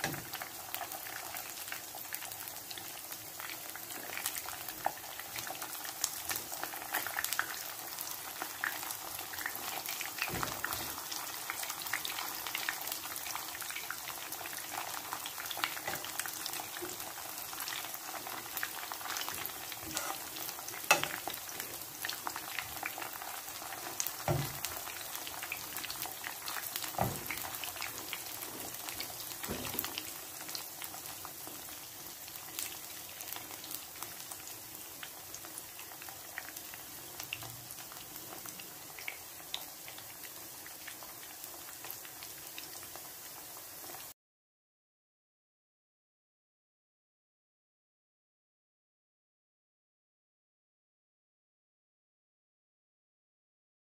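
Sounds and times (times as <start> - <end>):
chicken sizzling in hot oil: 0.0 - 44.2.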